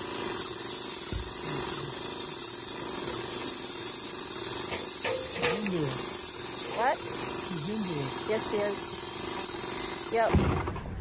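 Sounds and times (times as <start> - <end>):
paint sprayer hissing: 0.0 - 10.4.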